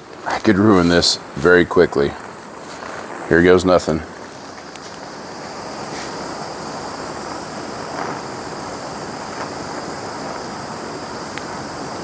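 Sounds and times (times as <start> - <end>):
propane torch hissing: 0.0 - 12.0.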